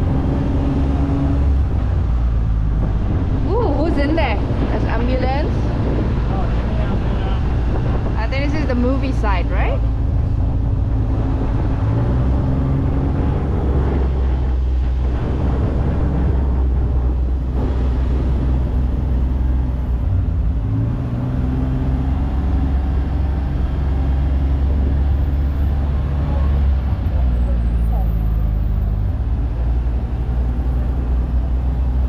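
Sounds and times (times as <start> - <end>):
vehicle engine running: 0.0 - 32.0
wind and road noise: 0.0 - 32.0.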